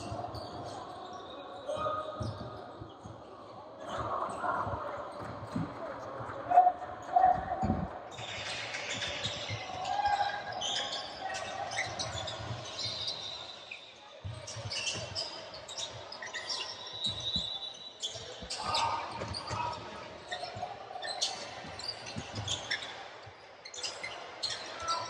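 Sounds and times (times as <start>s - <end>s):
sneakers squeaking: 0.0s - 6.3s, 7.0s - 25.0s.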